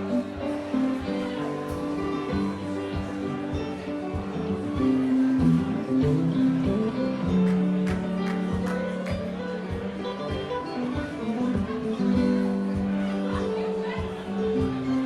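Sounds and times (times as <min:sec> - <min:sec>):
country-rock band playing: 0:00.0 - 0:15.0.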